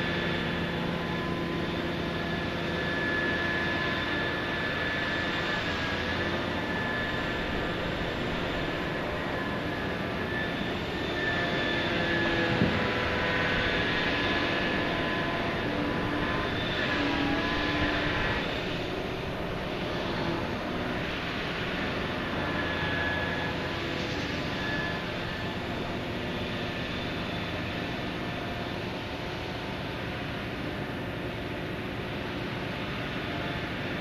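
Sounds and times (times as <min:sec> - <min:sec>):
heavy machinery engine running: 0:00.0 - 0:33.7
faint hydraulic whines: 0:00.0 - 0:34.0.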